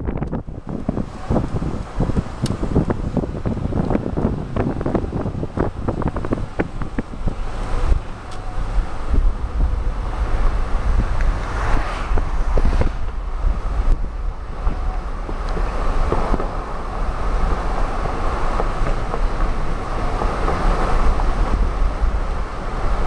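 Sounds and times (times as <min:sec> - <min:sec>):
car road noise inside cabin: 0:00.0 - 0:23.0.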